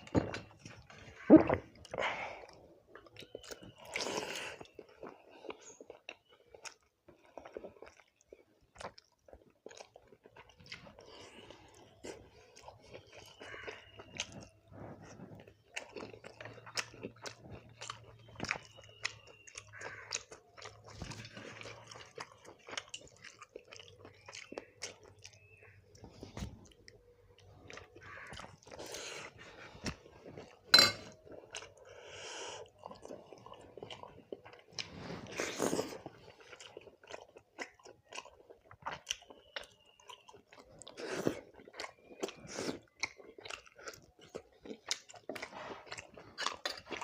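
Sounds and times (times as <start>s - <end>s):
person chewing food: 0.0s - 47.0s.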